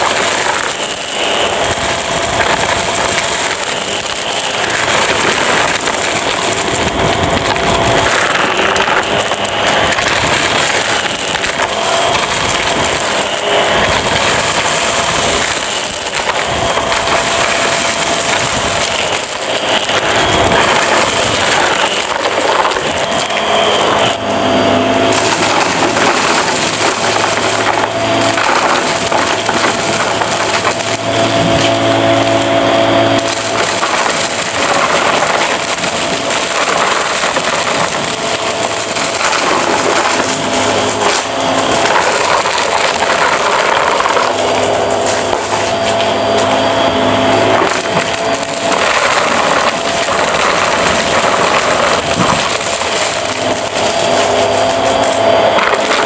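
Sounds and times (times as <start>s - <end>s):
debris rattling up vacuum hose: 0.0s - 24.2s, 25.0s - 56.0s
vacuum cleaner running: 0.0s - 56.0s.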